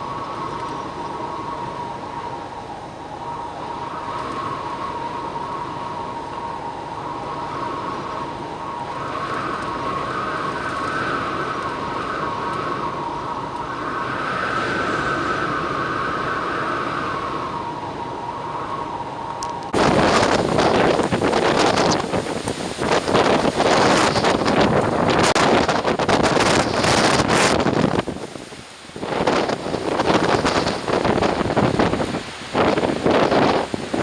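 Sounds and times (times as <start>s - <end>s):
high wind whistle: 0.0s - 34.0s
wind howling: 0.0s - 34.0s.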